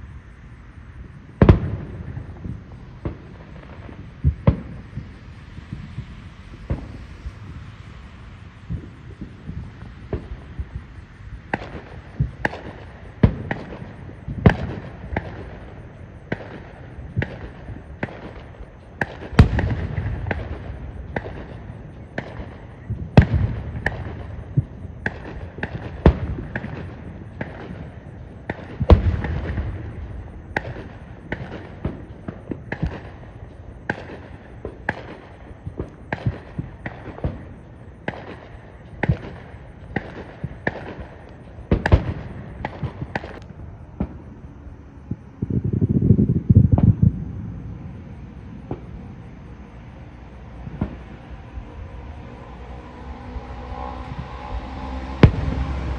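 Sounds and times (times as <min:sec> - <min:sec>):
rolling rumble: 0:01.0 - 0:55.9
loud fireworks booms: 0:01.3 - 0:52.8, 0:53.4 - 0:55.9
fireworks bursting: 0:01.3 - 0:55.9.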